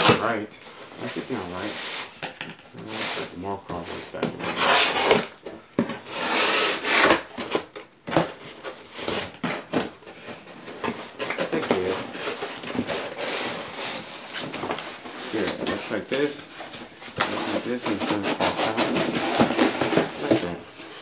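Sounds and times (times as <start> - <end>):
cardboard scraping: 0.0 - 21.0.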